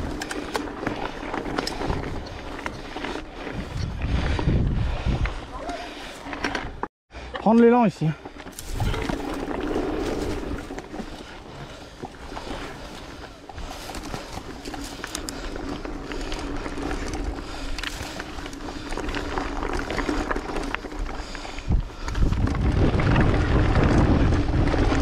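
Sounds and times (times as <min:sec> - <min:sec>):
steady tyre hum: 0:00.0 - 0:07.3, 0:08.0 - 0:25.0
bike and stones rattling: 0:00.0 - 0:25.0.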